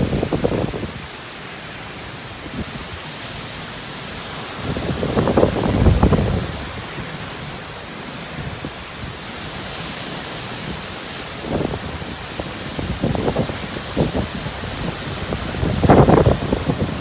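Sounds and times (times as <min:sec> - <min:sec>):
wind buffeting microphone: 0:00.0 - 0:01.2, 0:04.3 - 0:17.0
wind and rain rushing: 0:00.0 - 0:17.0.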